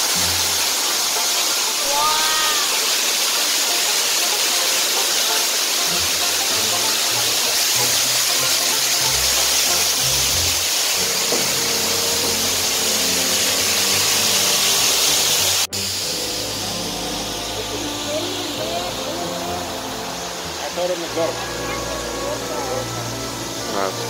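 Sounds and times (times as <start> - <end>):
heavy rain on a pond: 0.0 - 24.0.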